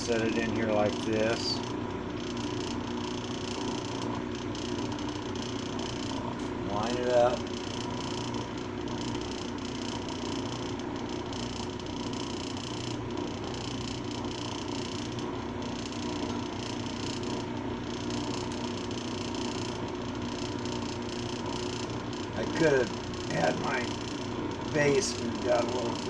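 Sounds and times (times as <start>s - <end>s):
trim saw humming: 0.0s - 26.0s.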